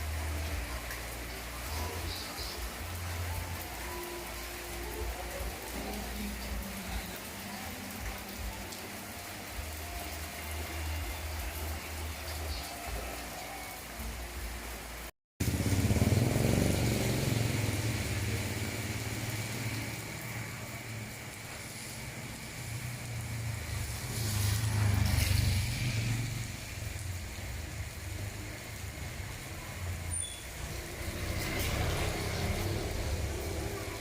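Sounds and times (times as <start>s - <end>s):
rain hissing: 0.0s - 34.0s.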